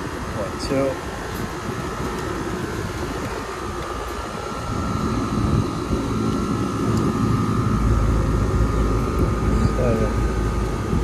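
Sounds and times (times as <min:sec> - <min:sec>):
air conditioning unit whirring: 0:00.0 - 0:11.0.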